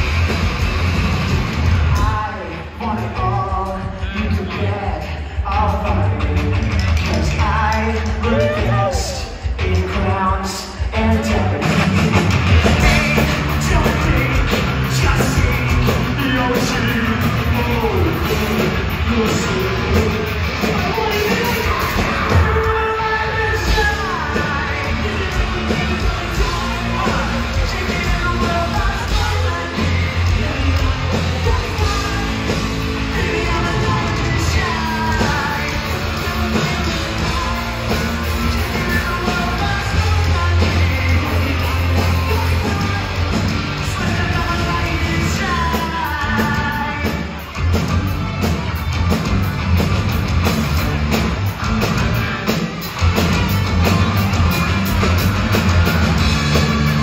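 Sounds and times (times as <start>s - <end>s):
live rock band playing: 0.0s - 57.0s
singer's vocals: 1.6s - 48.1s.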